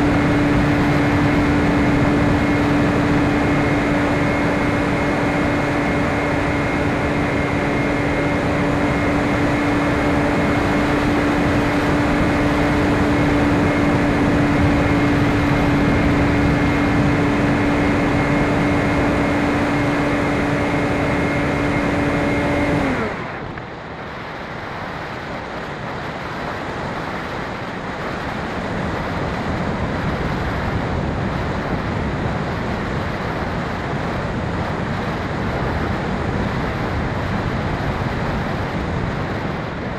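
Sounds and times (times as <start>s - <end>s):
electric motor and propeller whine: 0.0s - 39.9s
rushing air: 0.0s - 39.9s.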